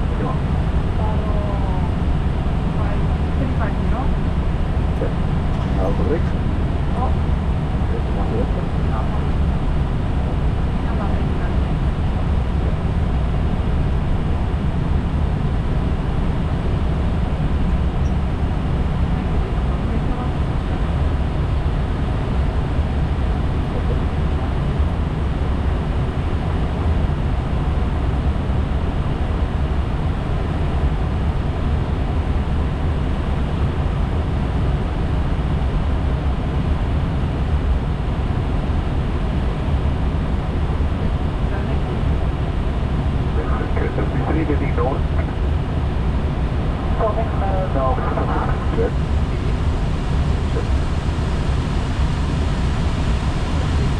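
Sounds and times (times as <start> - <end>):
aircraft cockpit drone: 0.0 - 53.9.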